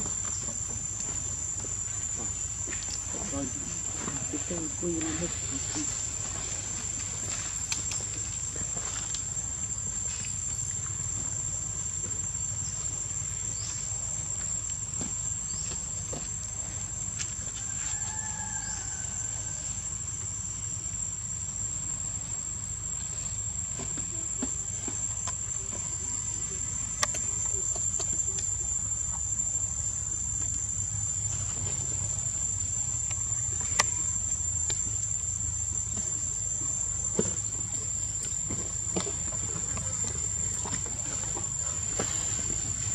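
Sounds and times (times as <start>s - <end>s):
high-pitched insect drone: 0.0s - 42.9s.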